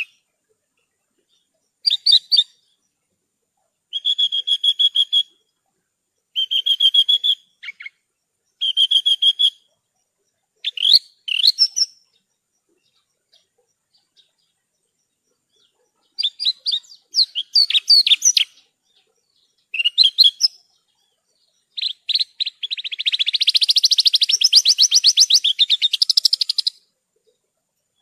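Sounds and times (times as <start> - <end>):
lark singing fast chirps: 0.0 - 0.2, 1.3 - 2.9, 3.9 - 5.5, 6.2 - 28.0.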